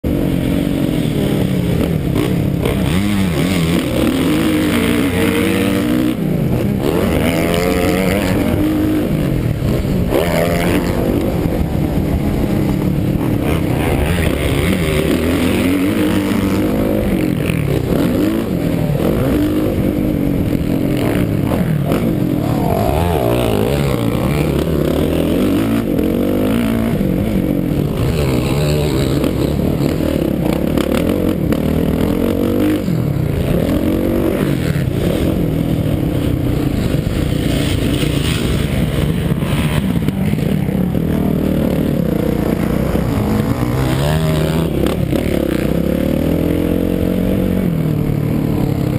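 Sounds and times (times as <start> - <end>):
dirt bike engine revving: 0.1 - 48.9.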